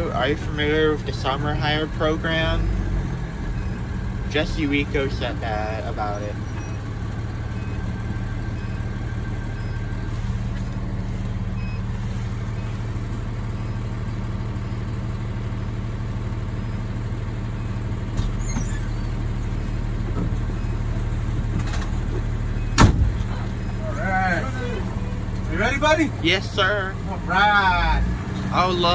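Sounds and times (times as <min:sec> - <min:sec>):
diesel engine humming: 0:00.0 - 0:28.9.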